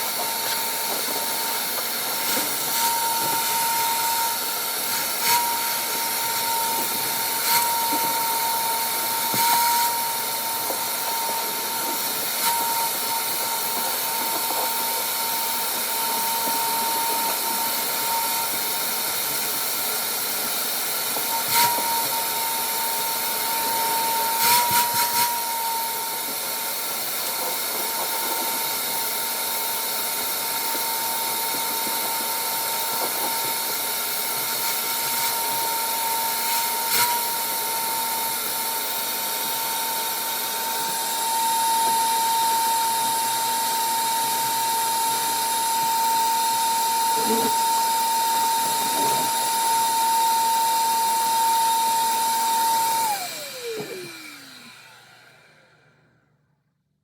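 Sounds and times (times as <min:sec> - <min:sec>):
small motor whining: 0:00.0 - 0:56.2.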